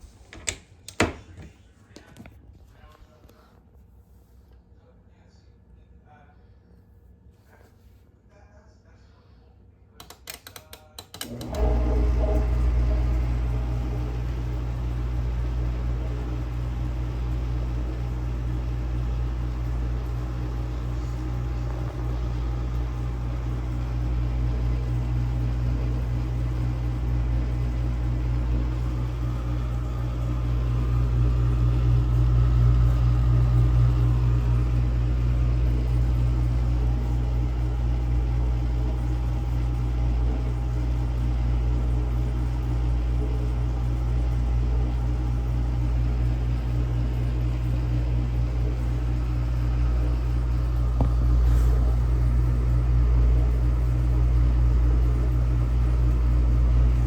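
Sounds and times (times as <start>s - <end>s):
dishwasher pump motor humming: 11.1s - 57.0s.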